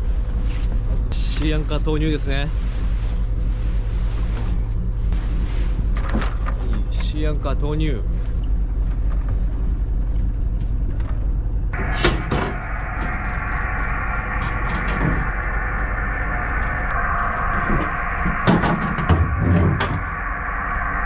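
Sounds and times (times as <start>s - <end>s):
boat machinery rumble: 0.0s - 21.0s.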